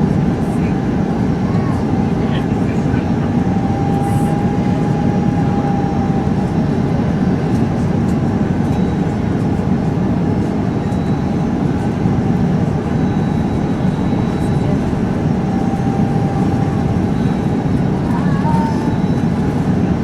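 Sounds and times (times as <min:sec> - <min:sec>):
aircraft cabin engine noise: 0:00.0 - 0:20.0.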